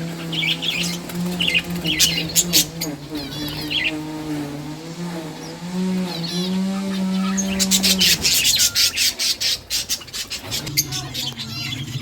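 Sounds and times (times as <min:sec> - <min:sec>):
budgies chirping: 0:00.0 - 0:12.0.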